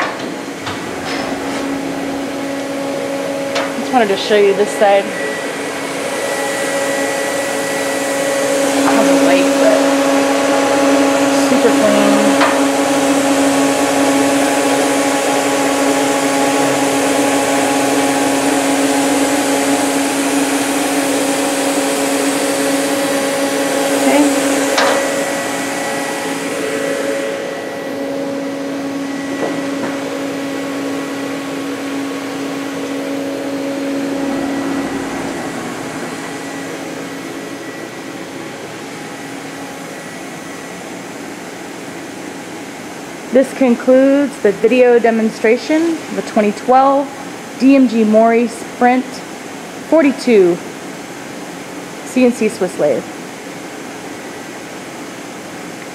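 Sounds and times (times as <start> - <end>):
lathe motors whirring: 0.0 - 49.9.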